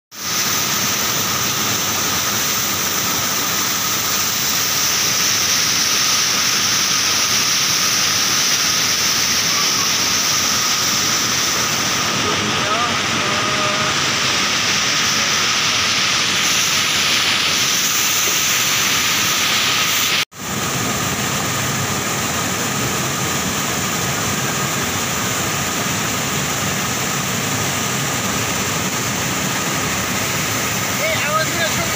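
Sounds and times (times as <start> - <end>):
waterfall rushing: 0.2 - 31.9.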